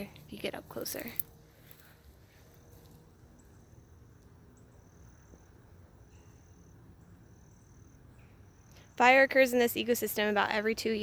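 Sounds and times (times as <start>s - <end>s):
high insect trills: 0.0s - 11.0s
low outdoor rumble: 0.0s - 11.0s.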